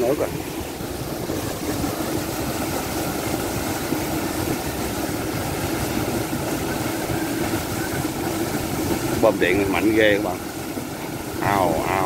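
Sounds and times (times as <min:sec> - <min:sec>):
steady hum: 0:00.0 - 0:12.0
water gushing from outlet pipe: 0:00.0 - 0:12.0.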